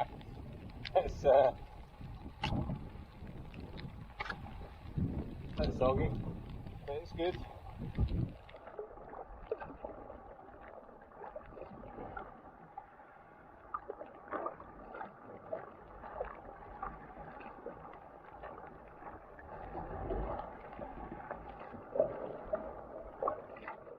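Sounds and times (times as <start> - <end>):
paddle splashing in water: 0.0 - 12.9, 13.6 - 23.9
water lapping against hull: 0.0 - 23.9.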